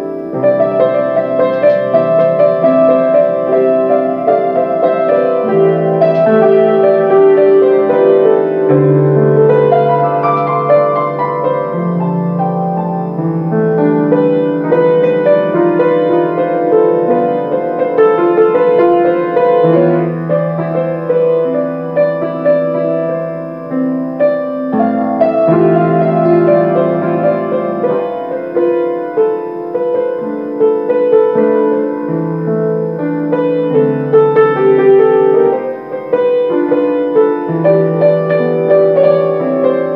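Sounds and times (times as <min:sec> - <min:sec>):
grand piano playing: 0:00.0 - 0:39.9.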